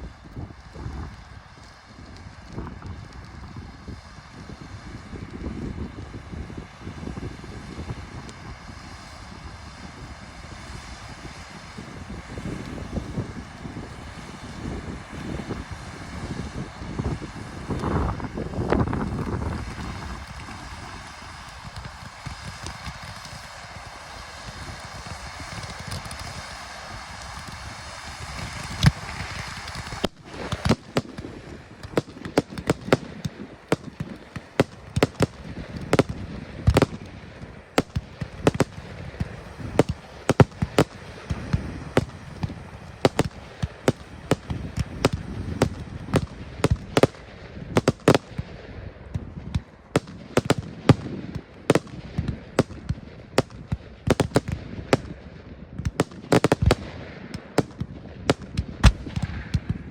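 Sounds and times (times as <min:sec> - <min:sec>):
fireworks banging: 0:00.0 - 0:59.9
steady hiss: 0:00.0 - 0:59.9.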